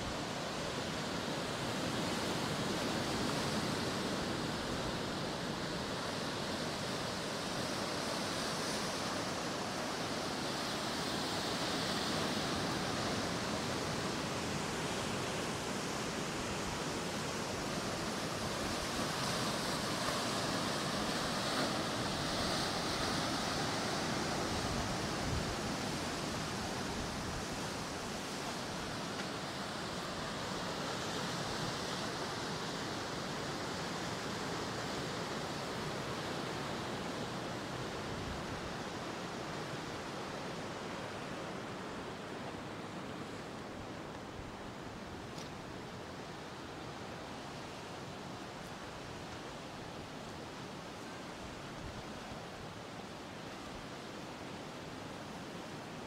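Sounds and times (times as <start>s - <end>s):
sea surf washing onto shore: 0.0s - 56.0s.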